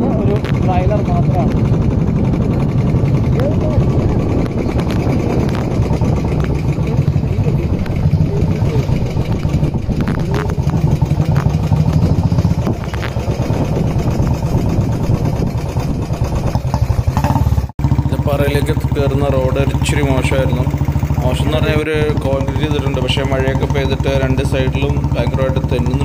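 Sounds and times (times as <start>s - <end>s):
motorcycle engines rumbling: 0.0s - 26.0s.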